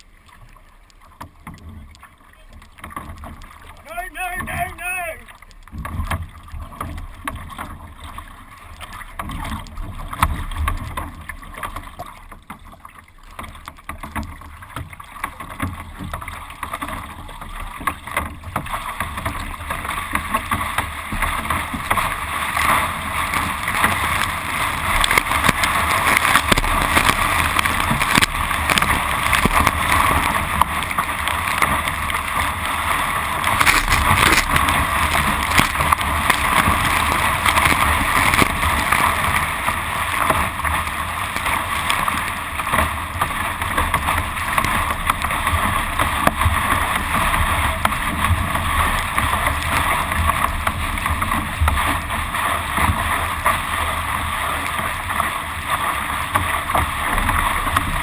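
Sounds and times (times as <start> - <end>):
water splashing against boat bow: 0.0 - 58.0.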